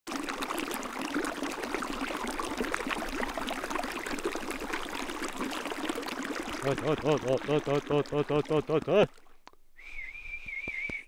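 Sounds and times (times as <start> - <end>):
stream babbling over stones: 0.1 - 9.5.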